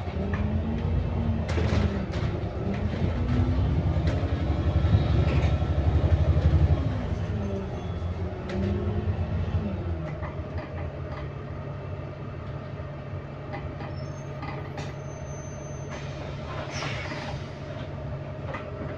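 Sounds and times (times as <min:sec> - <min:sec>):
bus drivetrain drone and whine: 0:00.0 - 0:18.9.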